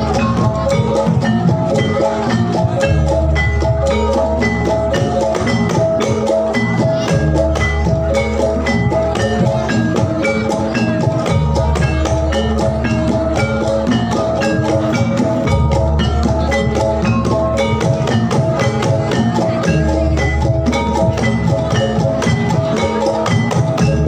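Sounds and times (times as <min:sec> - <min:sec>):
drumming: 0:00.0 - 0:24.0
gamelan music over loudspeakers: 0:00.0 - 0:24.0
heavy bass: 0:00.0 - 0:24.0.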